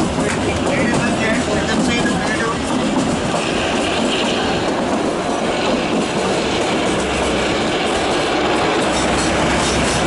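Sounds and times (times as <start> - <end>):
train wheels on rails: 0.0 - 10.0.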